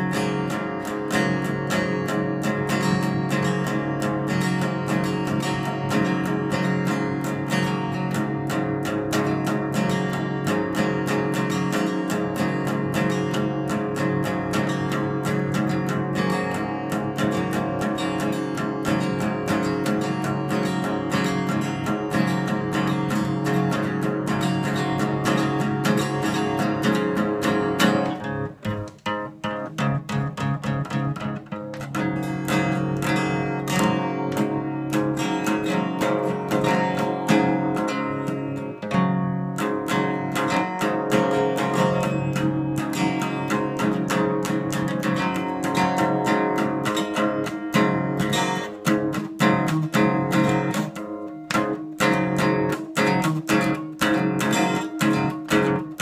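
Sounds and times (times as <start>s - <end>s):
acoustic guitar strummed: 0.0s - 56.0s.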